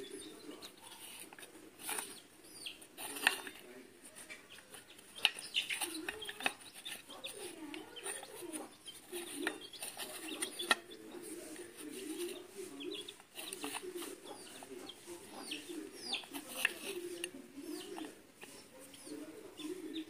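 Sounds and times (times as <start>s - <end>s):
birds chirping: 0.0s - 20.0s
chickens clucking: 0.0s - 20.0s.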